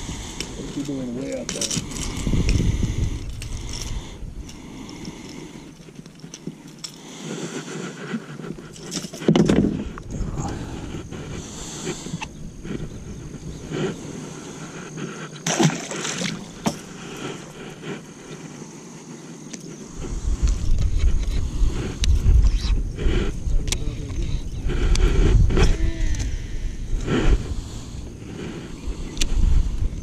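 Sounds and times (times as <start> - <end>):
gear rustling and clicking: 0.2 - 30.0.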